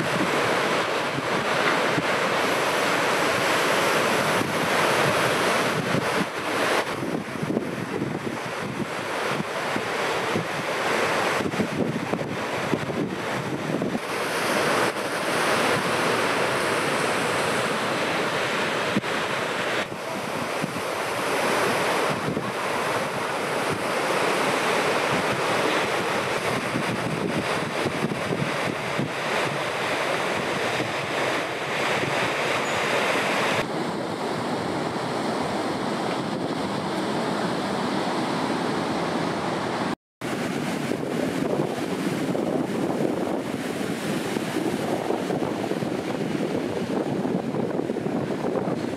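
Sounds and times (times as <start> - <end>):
waves breaking: 0.0 - 48.9
wind buffeting microphone: 0.0 - 48.9.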